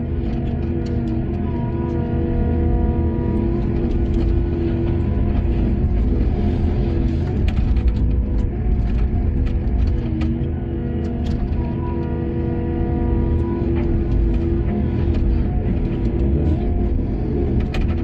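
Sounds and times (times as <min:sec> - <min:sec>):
diesel machinery rumbling: 0:00.0 - 0:18.0
music with long held notes: 0:00.0 - 0:18.0.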